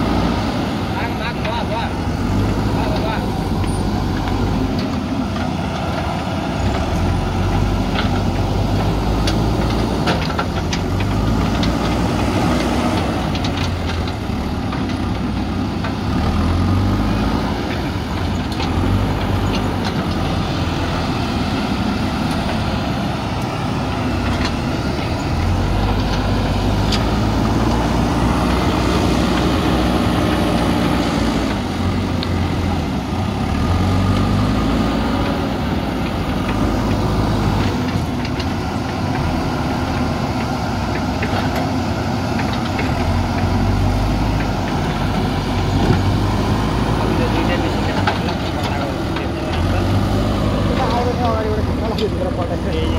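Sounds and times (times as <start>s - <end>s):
diesel engines revving: 0.0s - 52.9s.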